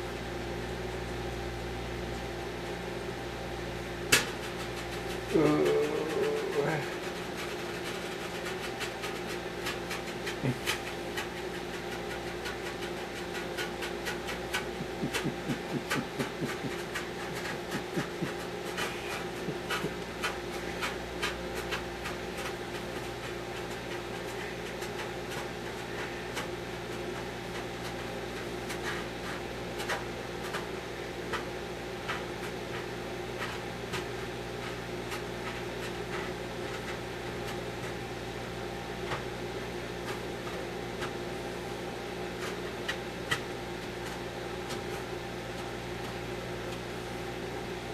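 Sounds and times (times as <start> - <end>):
microwave oven humming: 0.0 - 47.9.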